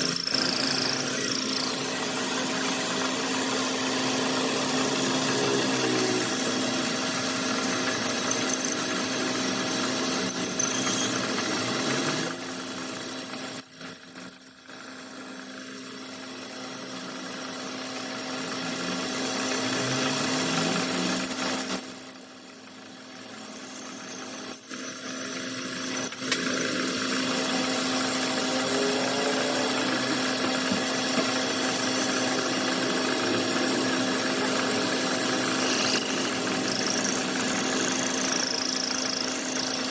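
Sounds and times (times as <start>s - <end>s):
metal lathe running: 0.0s - 13.6s, 16.9s - 26.1s, 30.1s - 39.9s.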